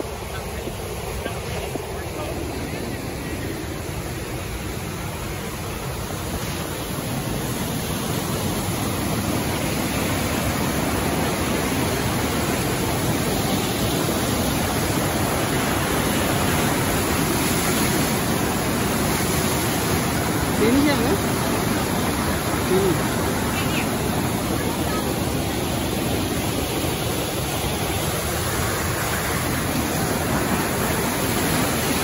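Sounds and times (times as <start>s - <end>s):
river rushing over boulders: 0.0s - 32.0s.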